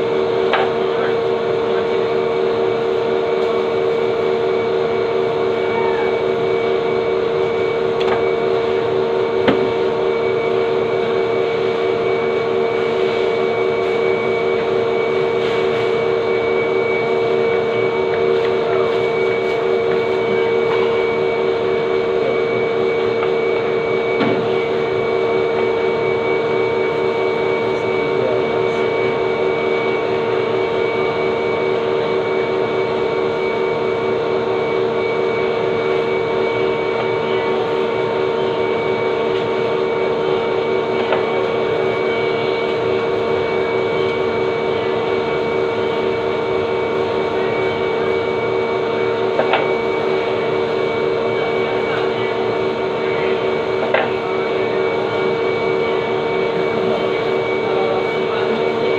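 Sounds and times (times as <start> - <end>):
machine drone with hum: 0.0 - 58.9.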